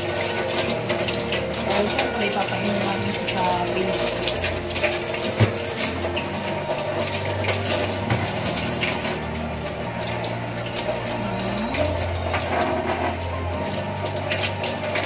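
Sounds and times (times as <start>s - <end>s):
watery noise: 0.0s - 15.0s.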